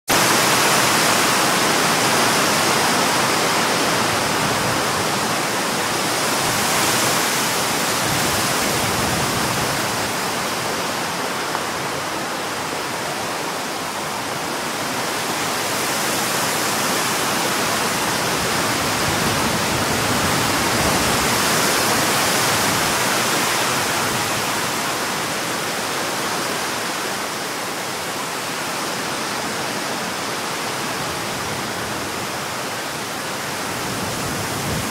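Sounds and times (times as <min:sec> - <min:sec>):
storm wind through trees: 0:00.1 - 0:34.9.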